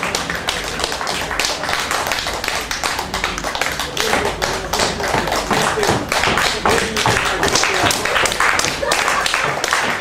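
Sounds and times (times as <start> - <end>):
rapid sharp tapping: 0.0 - 10.0.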